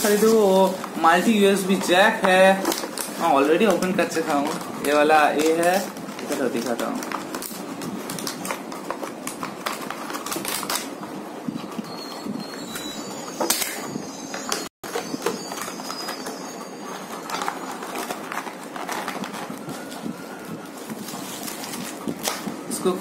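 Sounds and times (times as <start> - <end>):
plastic blister pack crinkling: 0.0 - 11.0, 14.9 - 22.7.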